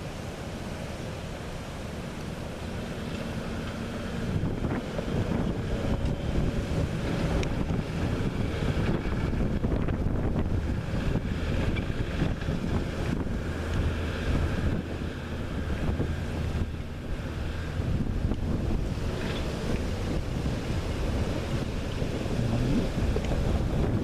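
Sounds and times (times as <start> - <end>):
wind buffeting microphone: 1.8 - 24.0.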